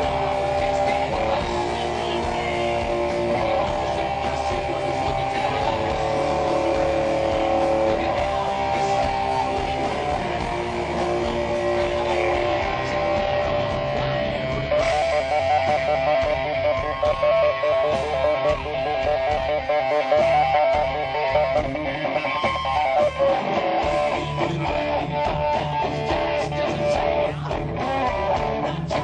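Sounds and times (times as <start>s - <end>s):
bass guitar: 0.0s - 29.0s
electric guitar sustained chords: 0.0s - 29.0s.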